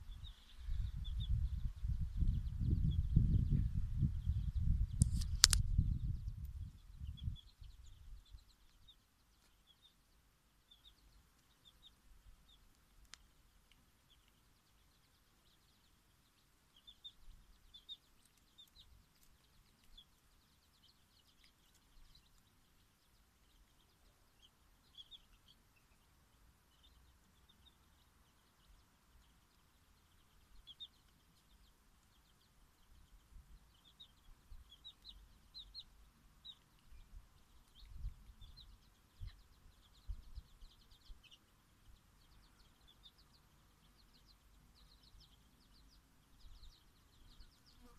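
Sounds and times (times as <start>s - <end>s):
chicks peeping: 0.0s - 47.9s.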